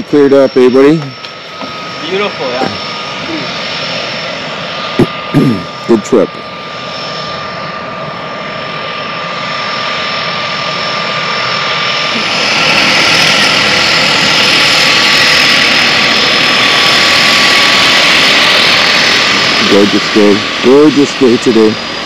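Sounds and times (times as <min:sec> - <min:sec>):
propeller plane engine running: 0:00.0 - 0:22.0.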